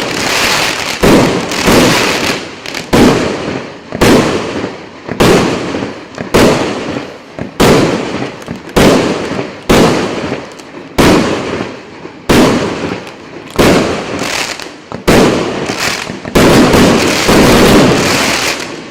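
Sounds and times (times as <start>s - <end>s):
firework bangs: 0.0s - 18.9s.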